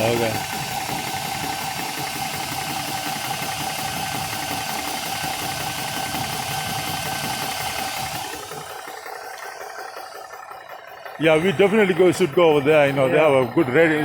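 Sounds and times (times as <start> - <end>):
air compressor whining: 0.0 - 14.0.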